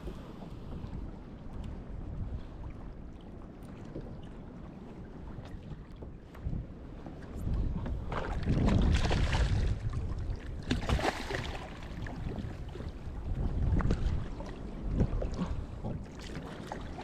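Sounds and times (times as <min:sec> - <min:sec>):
water splashing around kayak: 0:00.0 - 0:17.0
wind on microphone: 0:00.0 - 0:17.0.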